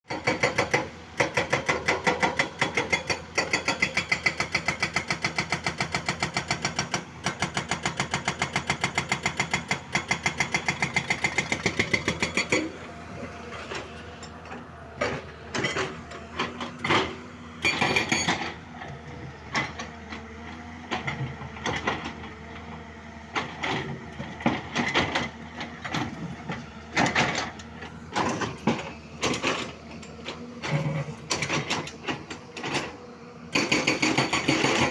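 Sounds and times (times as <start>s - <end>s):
excavator clanks and knocks: 0.1s - 34.9s
excavator mechanical clatter: 0.1s - 34.9s.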